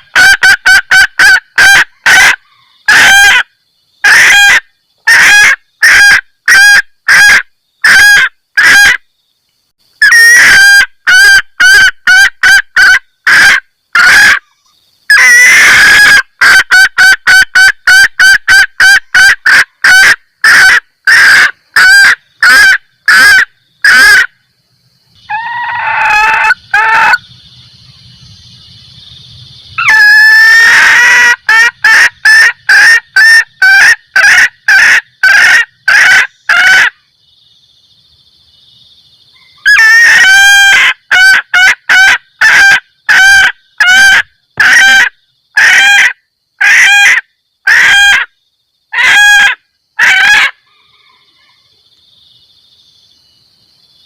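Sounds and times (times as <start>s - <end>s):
junglefowl hen cackling: 0.0s - 9.0s, 10.0s - 24.3s, 25.2s - 27.3s, 29.8s - 37.0s, 39.4s - 48.3s, 48.9s - 51.7s.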